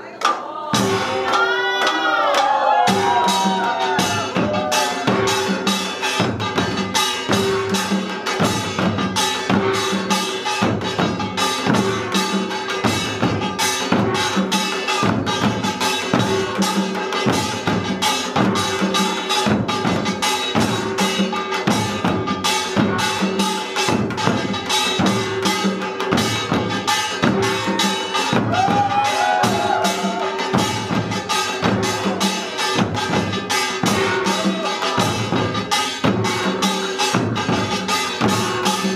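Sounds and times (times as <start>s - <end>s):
drum ensemble playing: 0.1s - 38.9s.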